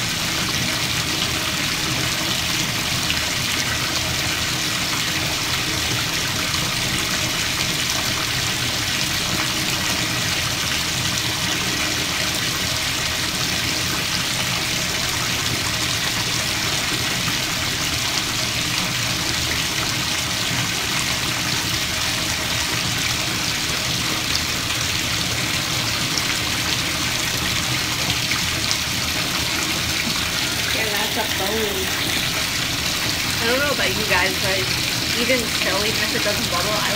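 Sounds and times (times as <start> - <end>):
tap water pouring into bathtub: 0.0 - 36.9.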